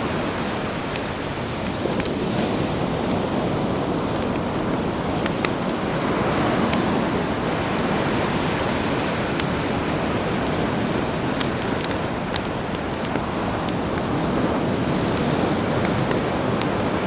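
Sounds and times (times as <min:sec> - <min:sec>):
campfire crackling and popping: 0:00.0 - 0:17.0
sea surf: 0:00.0 - 0:17.0.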